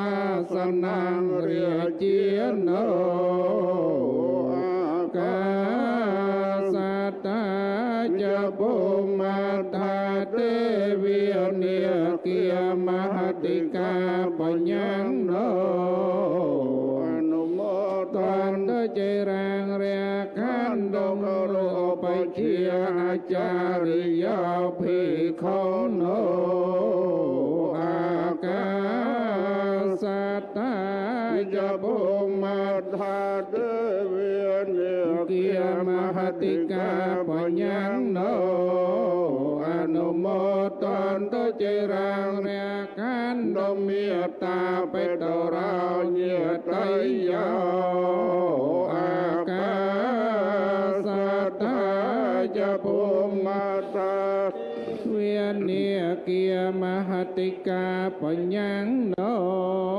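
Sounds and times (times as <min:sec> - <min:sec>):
men chanting over loudspeaker: 0:00.0 - 0:59.9.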